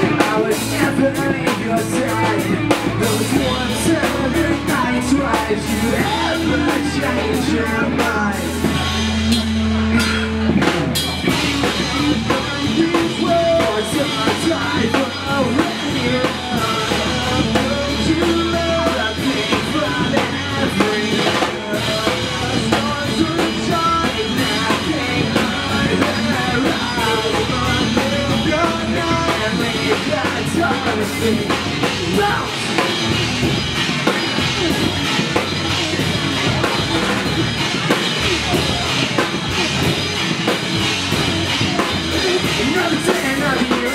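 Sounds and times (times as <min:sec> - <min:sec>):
bass guitar: 0:00.0 - 0:43.9
distorted electric guitars: 0:00.0 - 0:43.9
drum kit: 0:00.0 - 0:43.9
person singing: 0:00.0 - 0:43.9.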